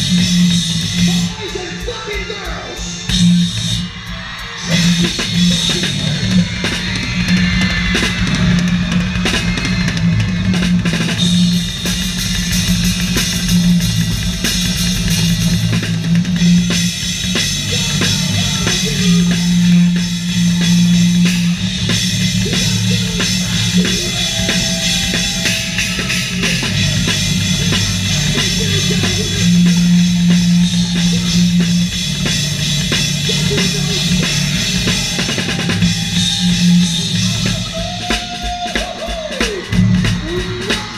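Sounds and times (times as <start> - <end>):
cymbals: 0.0 - 40.9
fast bass drum: 0.0 - 40.9
live rock band playing: 0.0 - 40.9.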